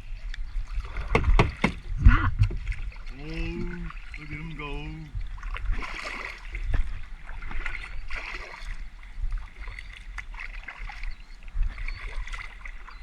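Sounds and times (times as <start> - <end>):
paddle splashing in water: 0.0 - 13.0
wind rumble on microphone: 0.0 - 13.0.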